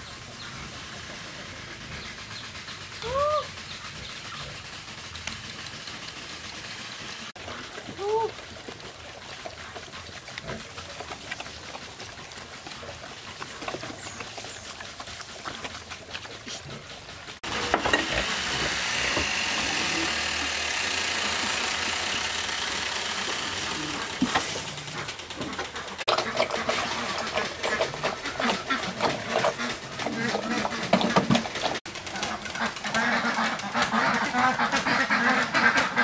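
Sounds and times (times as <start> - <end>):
dogs lapping and chewing food: 0.0 - 36.0.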